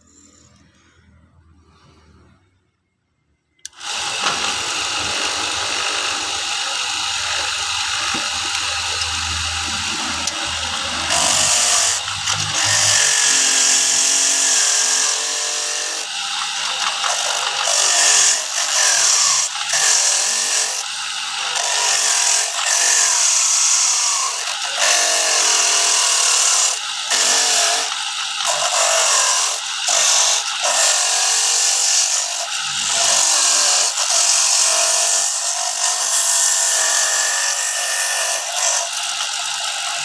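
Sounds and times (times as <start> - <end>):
coconut grating machine rasp: 3.6 - 40.0.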